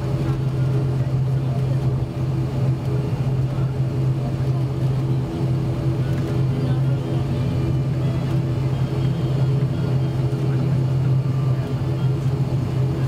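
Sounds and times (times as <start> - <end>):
propeller engine drone in cabin: 0.0 - 13.0.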